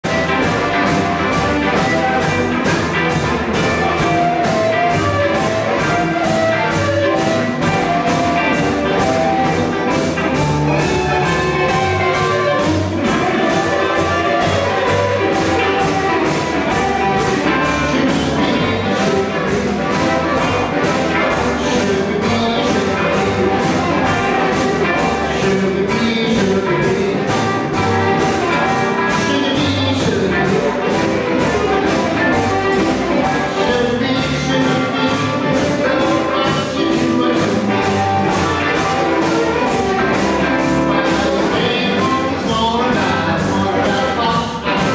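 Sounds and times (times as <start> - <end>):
amplified harmonica: 0.0 - 44.1
drums keeping a beat: 0.0 - 44.9
electric guitars: 0.0 - 44.9
upright bass: 0.0 - 44.9.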